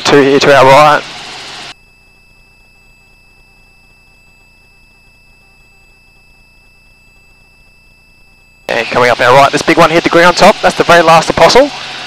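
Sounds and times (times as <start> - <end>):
faint high electronic tone: 1.7 - 11.9.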